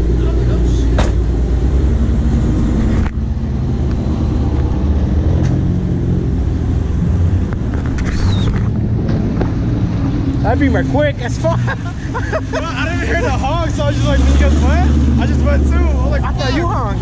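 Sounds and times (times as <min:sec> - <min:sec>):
car engines idling: 0:00.0 - 0:17.0.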